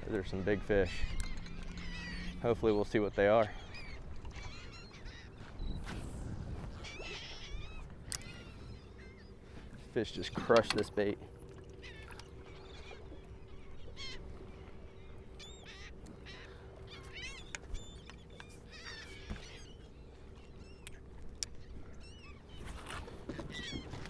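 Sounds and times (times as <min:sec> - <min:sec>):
low hum: 0:00.0 - 0:23.2
seabirds calling: 0:00.0 - 0:24.0.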